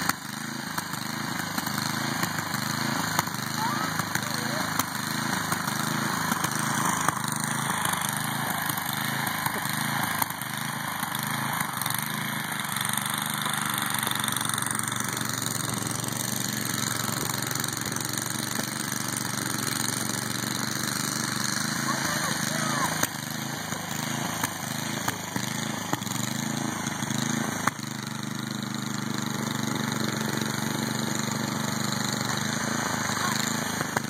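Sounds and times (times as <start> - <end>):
snowblower engine running: 0.0 - 34.0.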